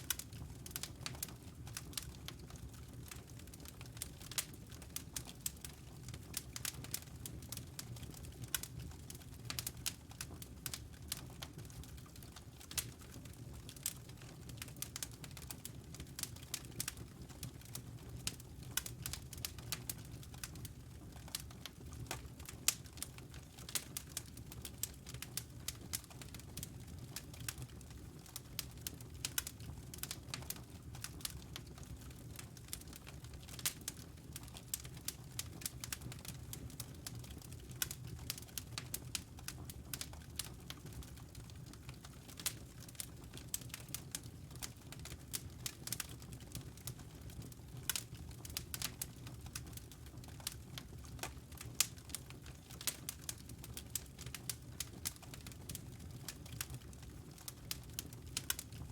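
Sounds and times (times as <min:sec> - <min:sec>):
fire crackling and popping: 0:00.0 - 0:58.9
low rumble of flames: 0:00.0 - 0:58.9.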